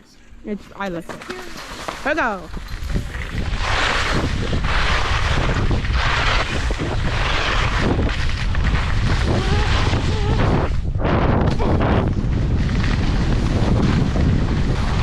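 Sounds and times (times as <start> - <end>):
wind buffeting microphone: 0.9 - 15.0
skis swishing on snow: 1.2 - 10.8, 11.8 - 15.0.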